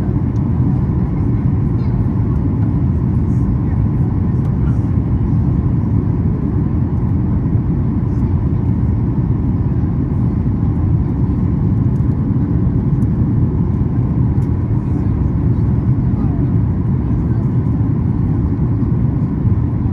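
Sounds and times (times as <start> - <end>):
aircraft cabin rumble: 0.0 - 19.9.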